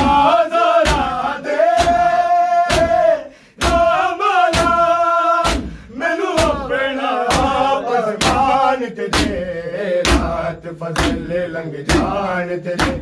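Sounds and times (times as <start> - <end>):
men chanting in long notes: 0.0 - 13.0.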